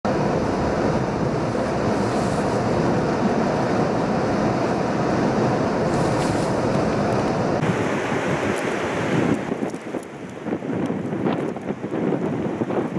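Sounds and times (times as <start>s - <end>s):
vehicle driving on wet road: 0.1s - 12.9s.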